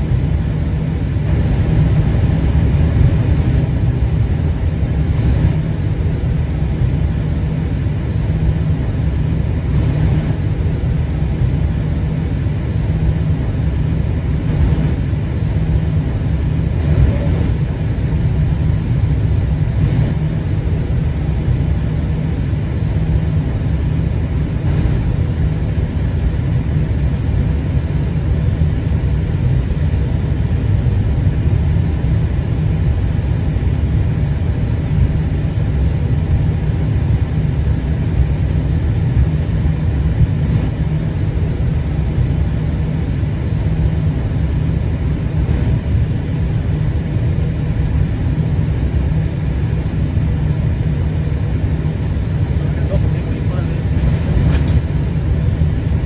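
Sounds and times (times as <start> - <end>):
jet engines low rumble: 0.0 - 56.0.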